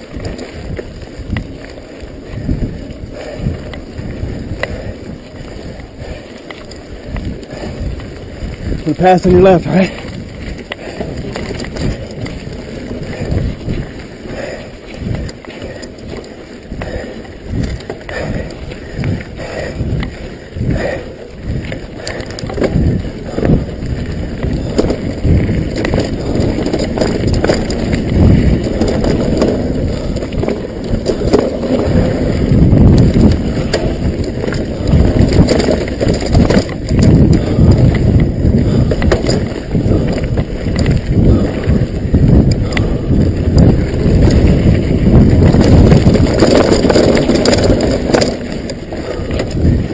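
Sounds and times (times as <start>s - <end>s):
bike knocks and rattles: 0.0s - 49.9s
bike tyres over dirt: 0.0s - 49.9s
wind on microphone: 0.0s - 49.9s.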